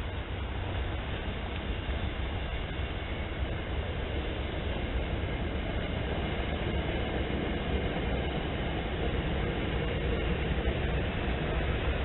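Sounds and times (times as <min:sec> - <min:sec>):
train rolling past: 0:00.0 - 0:12.0.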